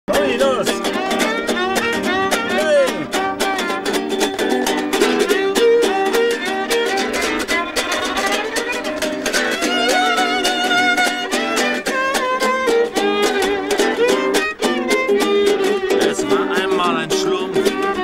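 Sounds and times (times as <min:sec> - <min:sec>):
acoustic guitar strumming: 0:00.1 - 0:18.0
violin melody: 0:00.1 - 0:18.0.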